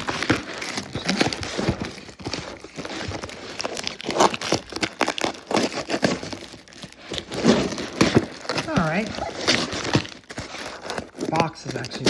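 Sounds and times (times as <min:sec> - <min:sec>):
packing material crinkling: 0:00.0 - 0:12.0.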